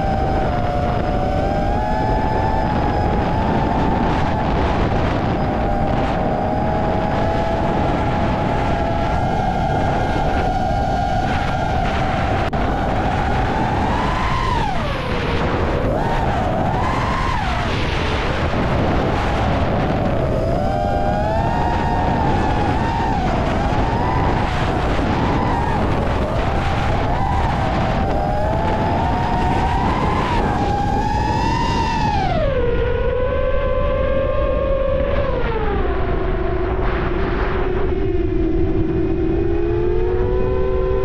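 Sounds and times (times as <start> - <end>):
drone motors whining: 0.0 - 41.0
wind rumble: 0.0 - 41.0.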